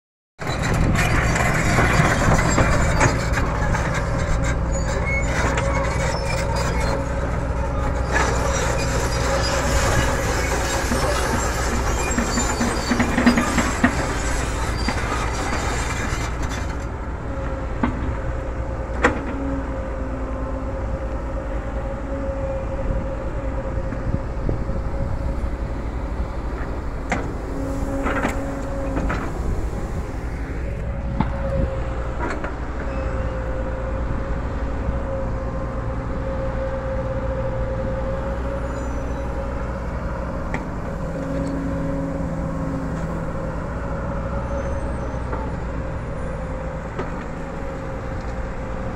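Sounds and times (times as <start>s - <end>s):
excavator diesel engine running: 0.4s - 48.9s.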